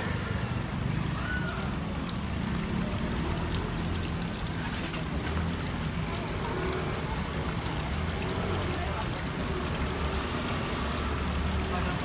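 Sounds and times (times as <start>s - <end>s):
waterfall trickling into pond: 0.0s - 12.0s.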